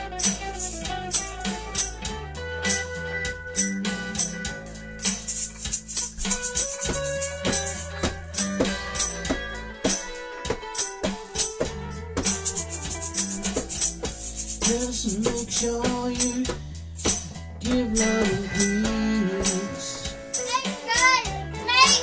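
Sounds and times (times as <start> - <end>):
hand percussion rattling: 0.0 - 20.8
electric guitar: 0.0 - 22.0.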